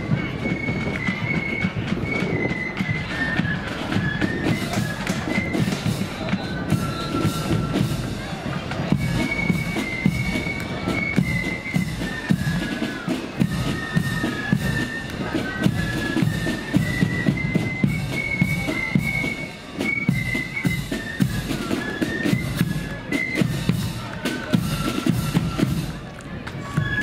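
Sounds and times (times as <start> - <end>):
flutes playing melody: 0.0 - 27.0
snare drums: 0.0 - 27.0.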